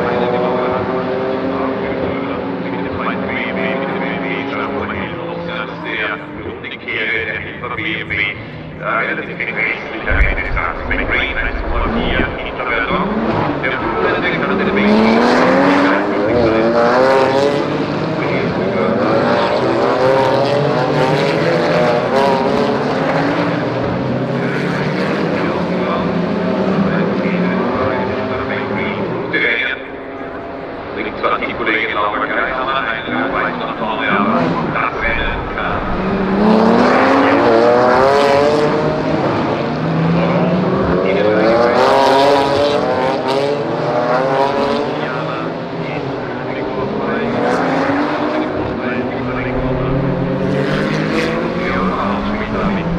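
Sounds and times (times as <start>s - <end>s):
race car engines accelerating: 0.0s - 52.9s.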